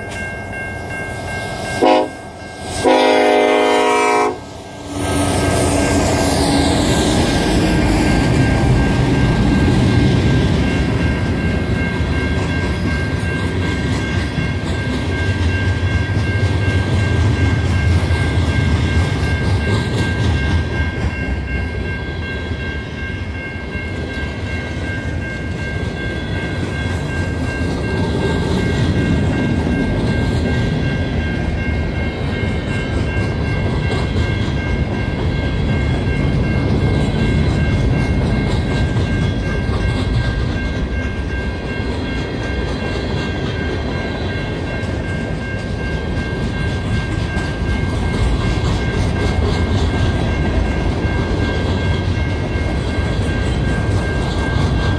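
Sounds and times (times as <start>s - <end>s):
freight train rumbling on rails: 0.0s - 54.9s.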